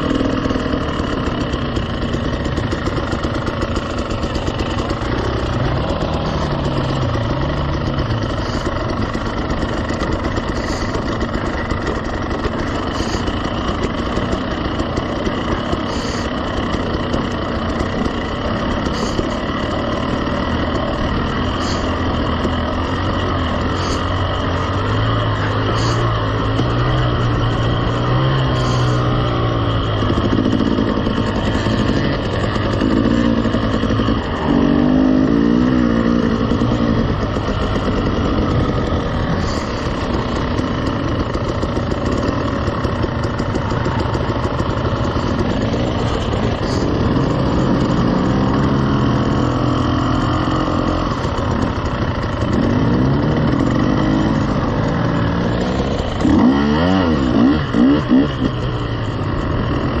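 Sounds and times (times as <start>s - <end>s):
dirt bike engines running: 0.0s - 60.0s
loud throttle blips: 0.0s - 60.0s.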